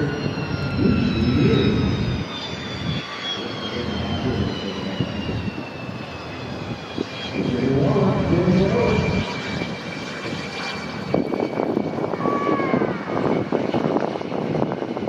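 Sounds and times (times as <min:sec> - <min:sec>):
jet engine whining: 0:00.0 - 0:15.0.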